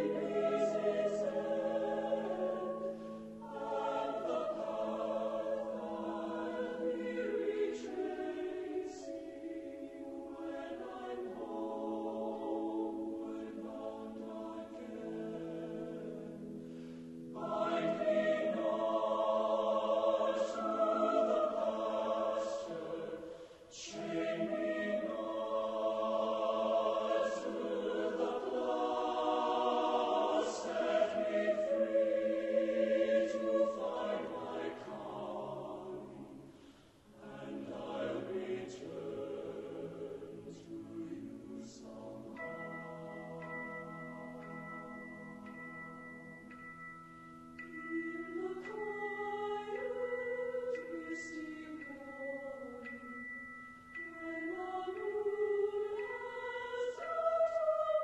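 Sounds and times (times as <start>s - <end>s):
choir singing: 0.0s - 46.8s, 47.6s - 58.0s.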